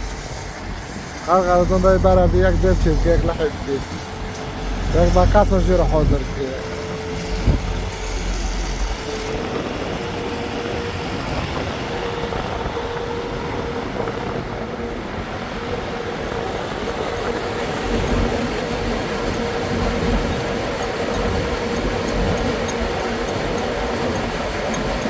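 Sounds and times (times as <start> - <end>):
machine engine humming: 0.0 - 25.0.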